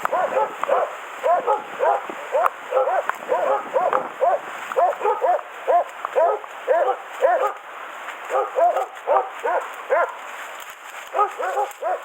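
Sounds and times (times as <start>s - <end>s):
hound baying: 0.0s - 7.6s, 8.3s - 10.2s, 11.1s - 12.0s.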